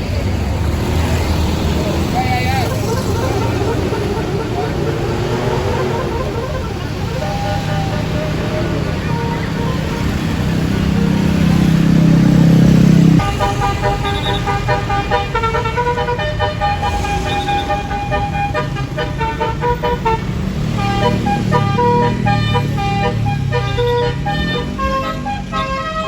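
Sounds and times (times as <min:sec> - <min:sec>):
horn playing quick tune: 0:02.6 - 0:26.0
loud low horn drone: 0:02.6 - 0:26.0.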